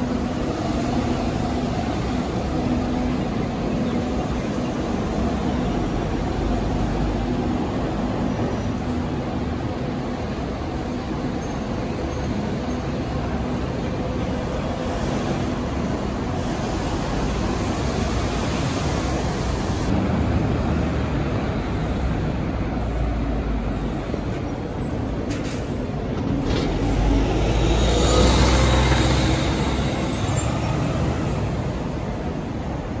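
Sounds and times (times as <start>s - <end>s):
bus engine rumble: 0.0s - 33.0s
traffic noise: 0.0s - 33.0s.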